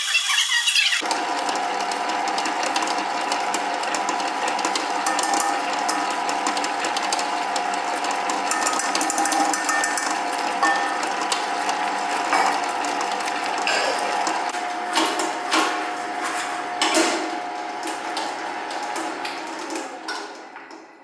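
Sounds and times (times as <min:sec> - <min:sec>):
mixer rattle: 0:00.1 - 0:21.0
stand mixer gear whine: 0:00.8 - 0:21.0.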